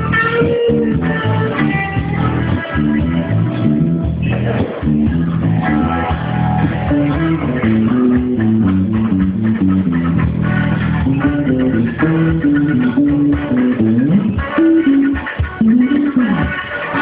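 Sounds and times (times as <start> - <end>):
bass guitar funk line: 0.0 - 17.0
plucked guitar: 0.0 - 17.0.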